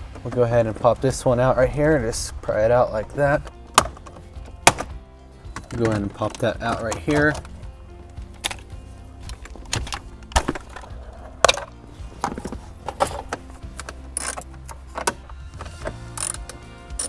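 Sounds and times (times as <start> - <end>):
quiet background music: 0.0 - 17.0.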